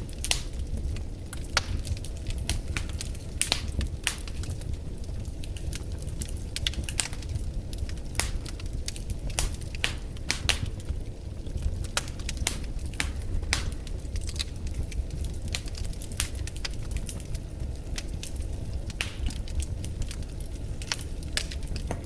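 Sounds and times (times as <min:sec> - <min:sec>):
low rumble of flames: 0:00.0 - 0:22.0
sharp pops of fire: 0:00.0 - 0:22.0
wood fire crackling: 0:00.0 - 0:22.0.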